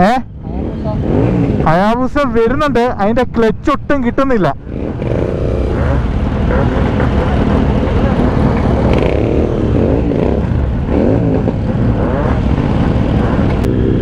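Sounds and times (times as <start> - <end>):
motorcycle engines running: 0.0 - 14.0.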